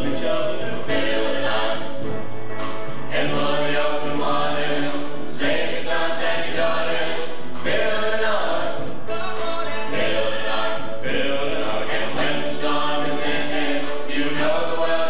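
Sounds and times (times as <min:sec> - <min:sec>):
chorus singing: 0:00.0 - 0:15.0.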